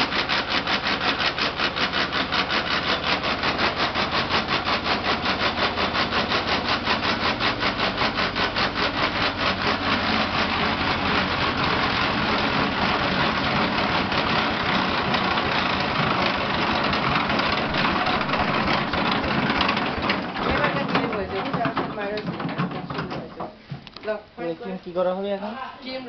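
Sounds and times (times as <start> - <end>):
bakery machinery rattling: 0.0 - 23.6.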